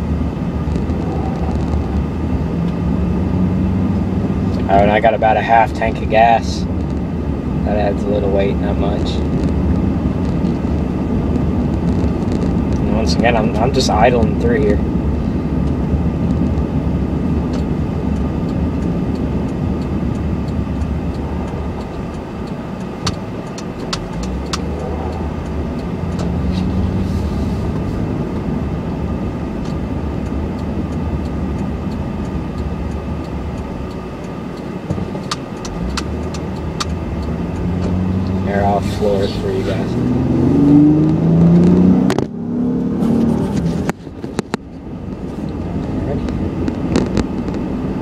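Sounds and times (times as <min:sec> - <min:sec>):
engine low hum from cab: 0:00.0 - 0:48.0.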